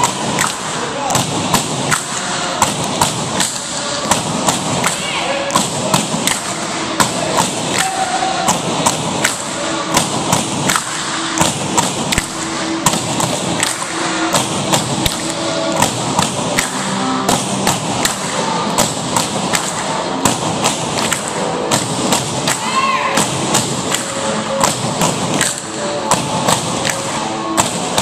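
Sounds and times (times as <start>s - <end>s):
poles clapping together: 0.0s - 28.0s.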